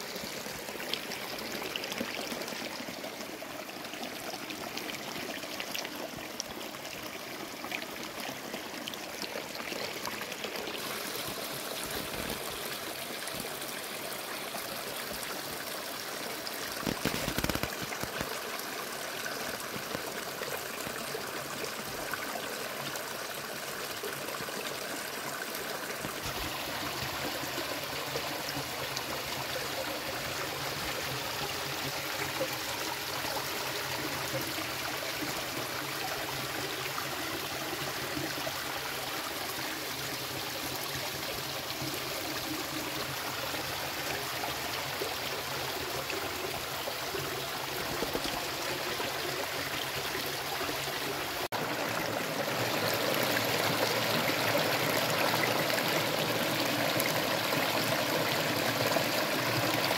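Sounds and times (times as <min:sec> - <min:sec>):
stream flowing over stones: 0:00.0 - 0:59.9
water running between boulders: 0:00.0 - 0:59.9.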